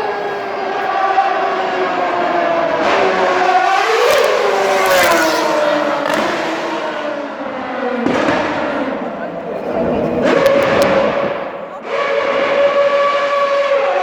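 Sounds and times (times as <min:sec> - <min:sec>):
race car engine passing by: 0:00.0 - 0:14.0.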